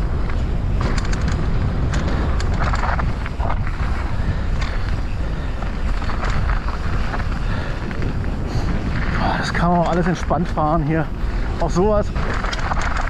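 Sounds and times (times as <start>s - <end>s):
bike rattling clicks: 0.0s - 13.0s
tyres crunching over gravel: 0.0s - 13.0s
wind rumble on microphone: 0.0s - 13.0s.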